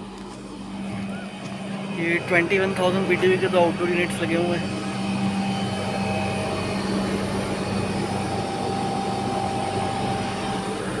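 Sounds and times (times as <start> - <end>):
faint whine: 0.0 - 11.0
refrigeration units humming: 0.0 - 11.0.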